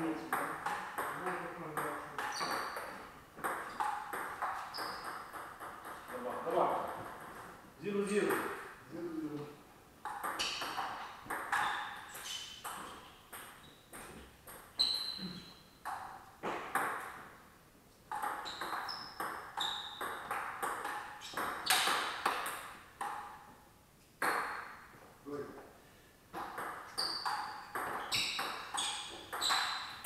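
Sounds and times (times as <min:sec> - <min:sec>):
table tennis ball hits: 0:00.2 - 0:07.5, 0:10.0 - 0:17.3, 0:18.1 - 0:23.5, 0:24.2 - 0:25.0, 0:26.3 - 0:30.0.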